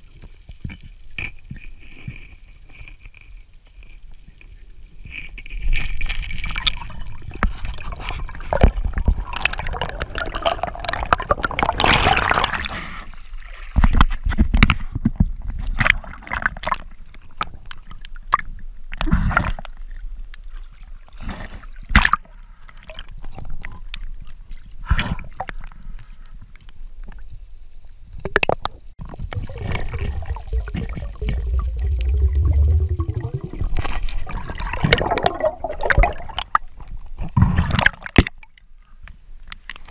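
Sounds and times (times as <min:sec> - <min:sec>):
water sloshing and gurgling: 0:05.0 - 0:27.4, 0:28.2 - 0:39.9.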